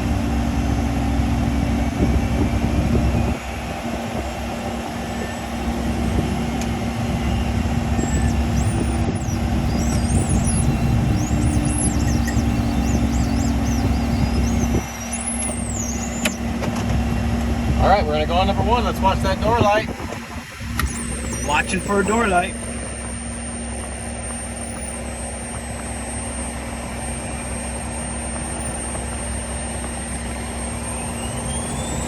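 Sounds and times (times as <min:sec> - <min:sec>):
jet engines idling: 0:00.0 - 0:32.0.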